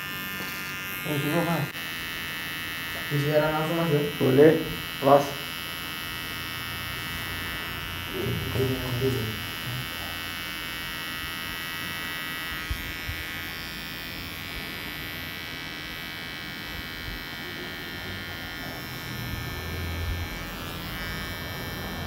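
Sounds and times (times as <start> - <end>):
hair trimmer buzzing: 0.0 - 22.0.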